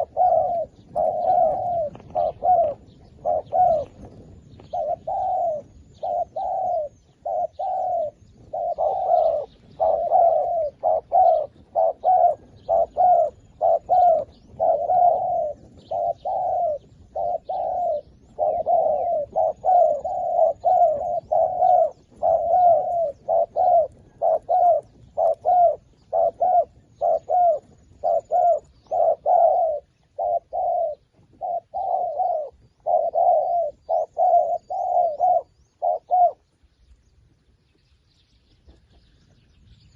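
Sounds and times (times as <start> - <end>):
doves cooing: 0.0 - 36.7
small birds chirping: 0.0 - 39.9.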